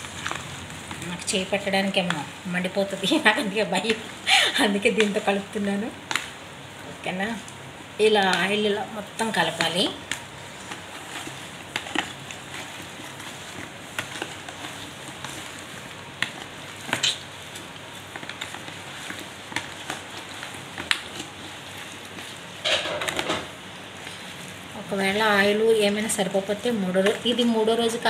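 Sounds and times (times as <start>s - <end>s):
wet squishing of hand mixing: 0.0s - 28.0s.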